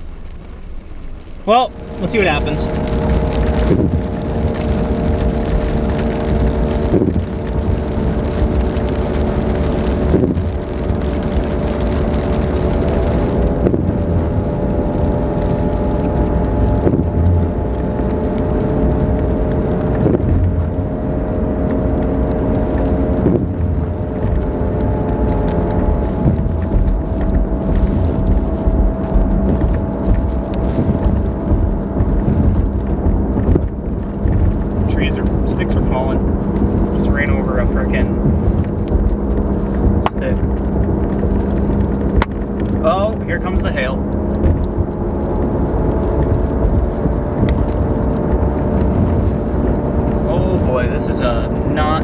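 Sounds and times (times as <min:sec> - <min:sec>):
car engine and road drone: 0:00.0 - 0:52.0
wind against car: 0:00.0 - 0:52.0.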